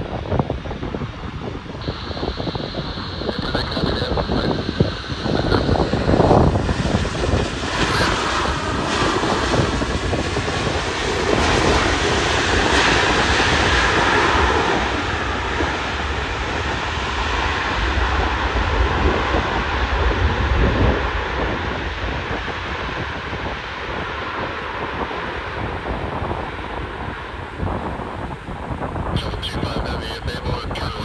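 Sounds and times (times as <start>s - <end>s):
jet engines reverse thrust roar: 0.0s - 31.0s.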